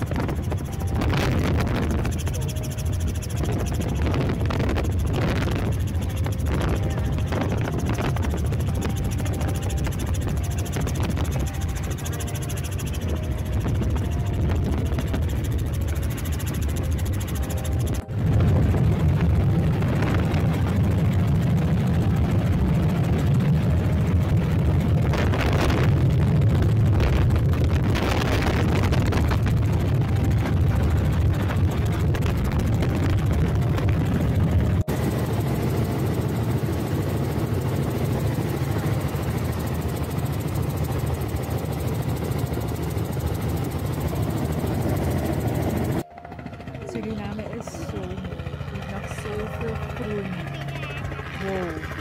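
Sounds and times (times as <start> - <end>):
helicopter engine and rotor rumble: 0.0 - 52.0.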